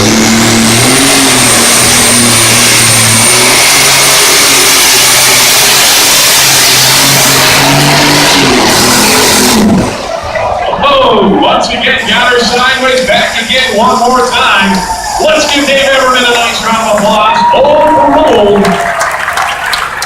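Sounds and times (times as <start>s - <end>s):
high whine: 0.0s - 18.8s
tractor engine running flat out: 0.0s - 20.0s.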